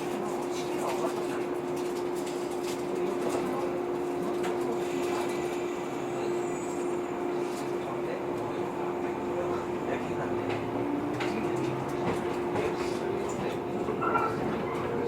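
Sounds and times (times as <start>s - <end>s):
train electrical hum: 0.0s - 15.0s.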